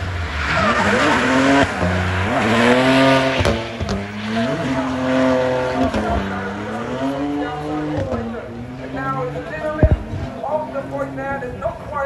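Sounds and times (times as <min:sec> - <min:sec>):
car engine revving high: 0:00.0 - 0:11.6.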